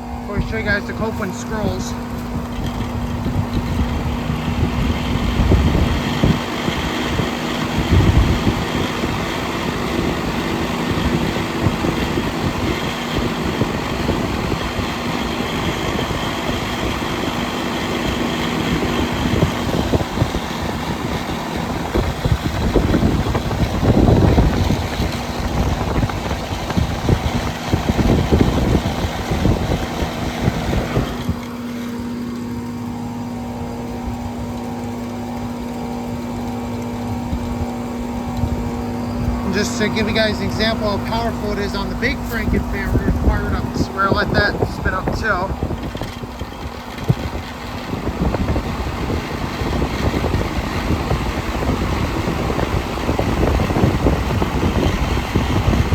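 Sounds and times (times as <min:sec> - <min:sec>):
air buffeting microphone: 0:00.0 - 0:55.9
air conditioner hum and fan drone: 0:00.0 - 0:55.9.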